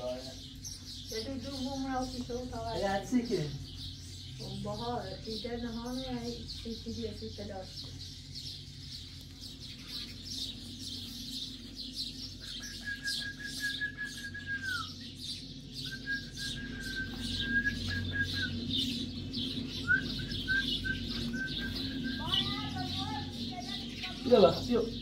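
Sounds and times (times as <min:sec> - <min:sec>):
low hum: 0:00.0 - 0:25.0
small birds chirping: 0:00.0 - 0:25.0.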